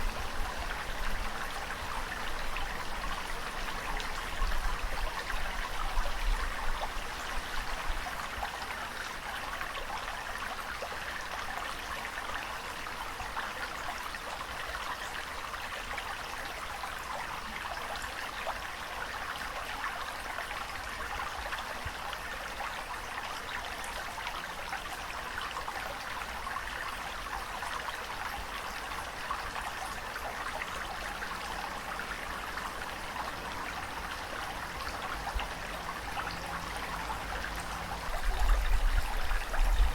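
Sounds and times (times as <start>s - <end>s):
water rushing and trickling: 0.0s - 39.9s.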